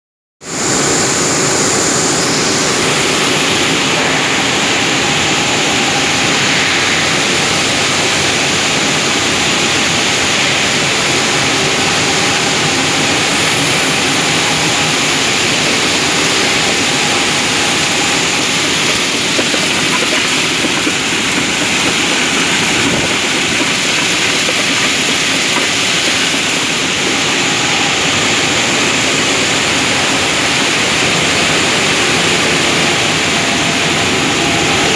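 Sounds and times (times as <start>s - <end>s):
processing machinery din: 0.5s - 34.9s.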